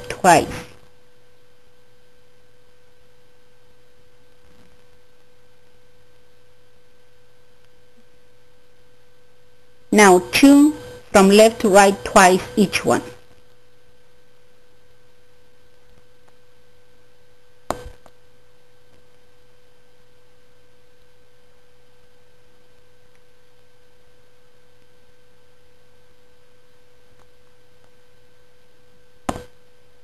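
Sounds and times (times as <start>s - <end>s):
steady humming tone: 0.0s - 30.0s.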